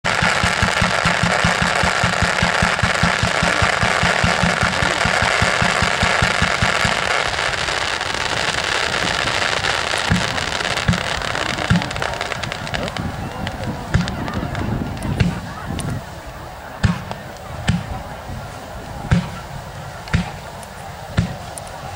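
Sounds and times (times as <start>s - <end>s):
firework booms: 0.0s - 21.9s
fireworks launching thumps: 0.1s - 16.0s, 16.8s - 18.0s, 19.0s - 21.7s.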